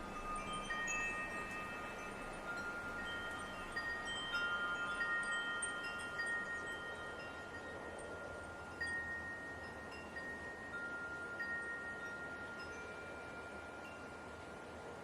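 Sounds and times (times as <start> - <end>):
wind chimes ringing: 0.0 - 14.9
soft wind hiss: 0.0 - 15.0.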